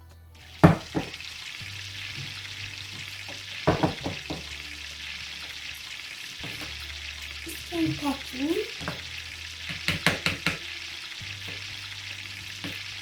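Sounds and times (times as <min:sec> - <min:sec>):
frying sizzle: 0:00.4 - 0:13.0.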